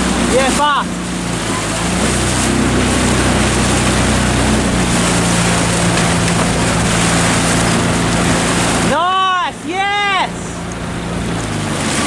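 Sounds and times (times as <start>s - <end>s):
motorboat engine running: 0.0s - 12.0s
water noise: 0.0s - 12.0s
wind: 0.0s - 12.0s.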